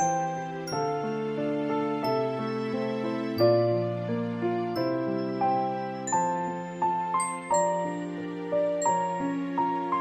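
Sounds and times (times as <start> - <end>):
bell-like background music: 0.0 - 10.0.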